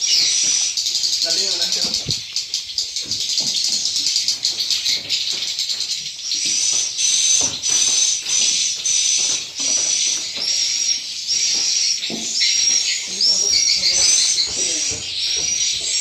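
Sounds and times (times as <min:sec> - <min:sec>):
swiftlets chirping and clicking: 0:00.0 - 0:16.0.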